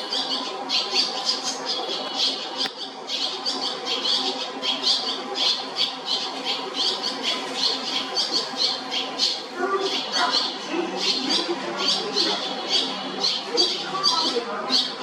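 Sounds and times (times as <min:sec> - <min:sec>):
nestlings chirping: 0:00.0 - 0:15.0.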